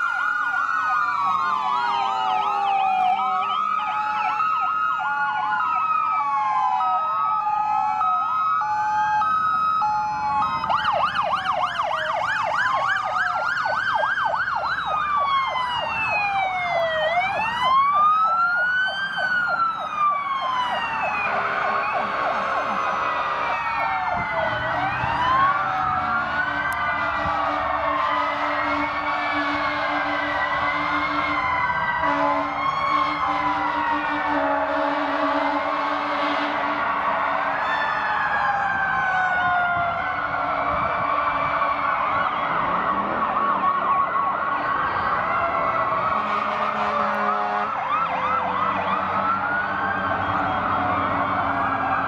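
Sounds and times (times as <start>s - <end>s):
sirens wailing and yelping: 0.0s - 52.0s
two-note hi-lo siren: 0.0s - 52.0s.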